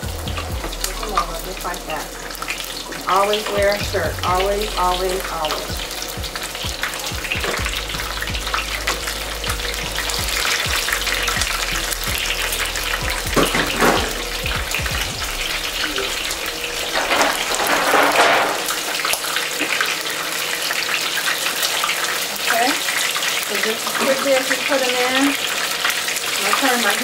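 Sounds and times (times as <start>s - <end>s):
wontons deep-frying in hot oil: 0.0s - 27.0s.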